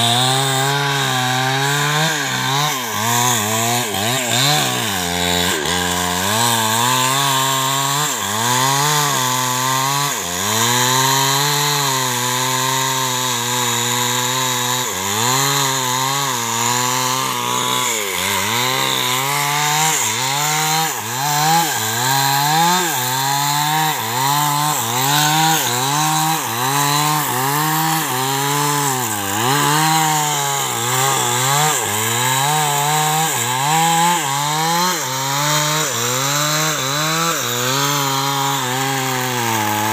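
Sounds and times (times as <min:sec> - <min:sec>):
chainsaw cutting into tree trunk: 0:00.0 - 0:39.9.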